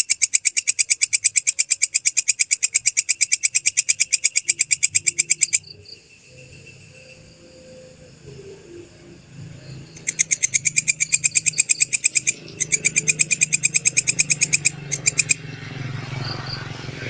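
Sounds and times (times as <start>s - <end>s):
insect shrill clicking call: 0.0s - 15.5s.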